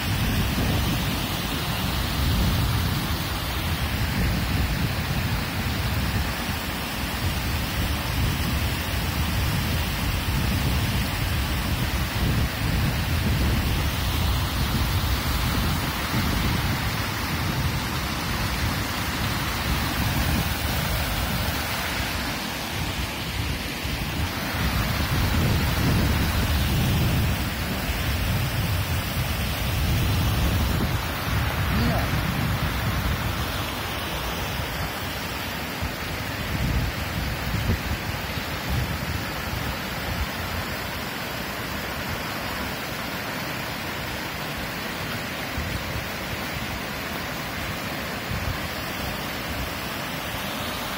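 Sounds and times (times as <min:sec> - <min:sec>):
river rushing over rocks: 0:00.0 - 0:50.9.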